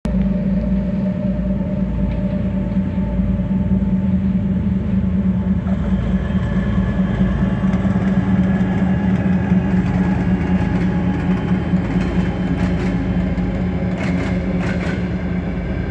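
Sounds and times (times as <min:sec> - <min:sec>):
diesel locomotive engine hum: 0:00.0 - 0:15.9.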